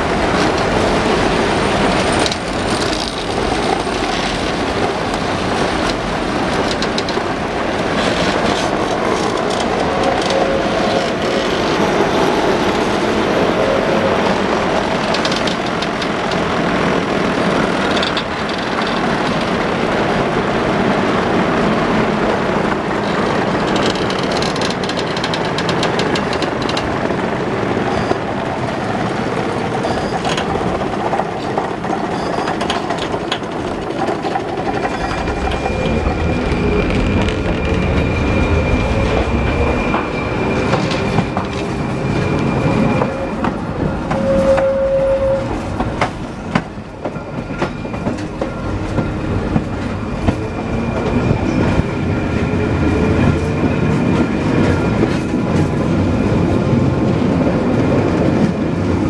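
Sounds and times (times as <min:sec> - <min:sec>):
tram wheels rumbling on rail: 0:00.0 - 0:59.0.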